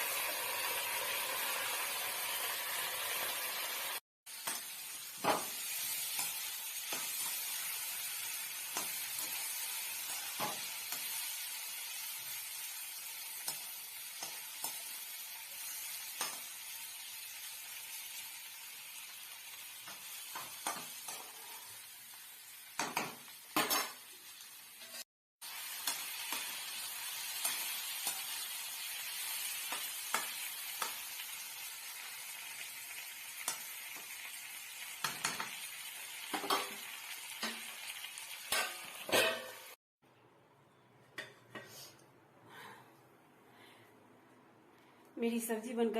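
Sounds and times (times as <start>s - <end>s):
vegetables sizzling in a pan: 0.0s - 39.8s.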